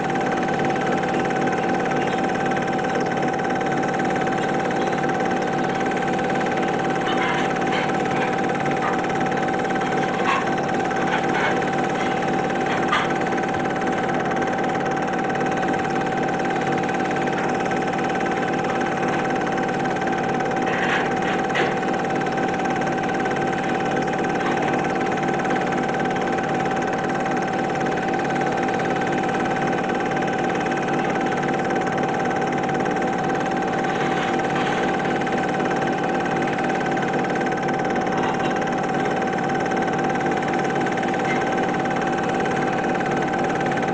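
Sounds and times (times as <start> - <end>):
film projector running: 0.0 - 43.9.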